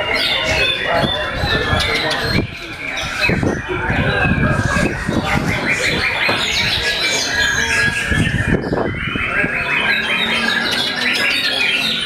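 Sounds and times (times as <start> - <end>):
songbirds whistling and chirping: 0.0 - 12.0.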